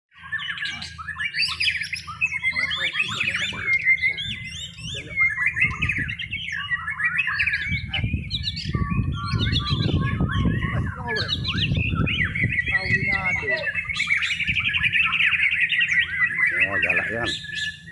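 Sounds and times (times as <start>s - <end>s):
bird singing whistled phrases: 0.1s - 17.9s.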